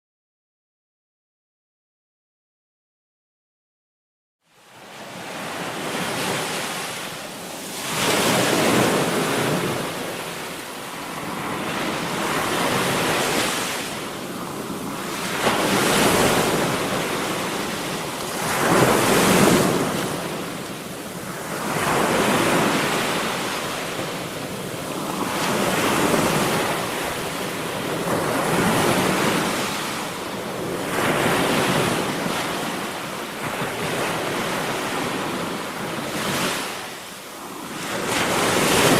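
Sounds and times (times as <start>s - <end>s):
ocean waves breaking: 4.6s - 38.9s.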